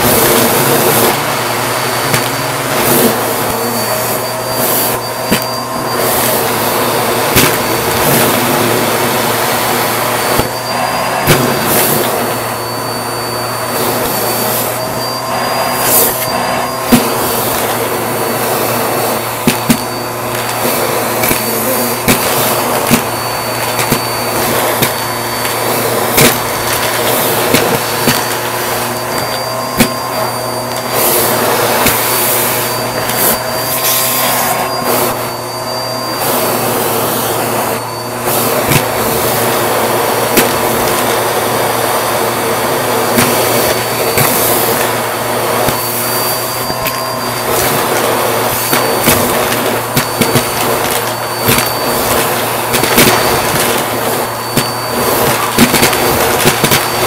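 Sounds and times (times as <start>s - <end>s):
vacuum cleaner motor hum and whine: 0.0s - 57.0s.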